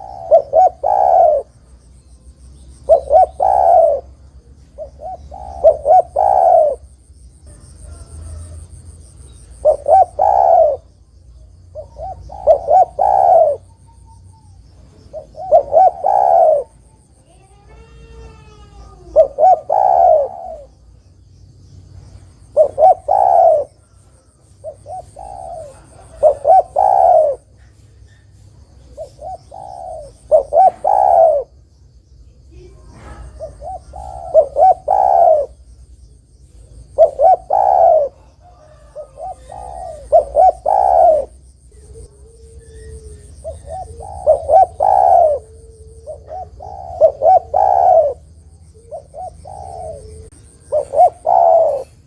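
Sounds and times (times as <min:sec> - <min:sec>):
dove cooing: 0:00.0 - 0:20.9, 0:22.4 - 0:31.6, 0:32.4 - 0:35.7, 0:36.4 - 0:52.0.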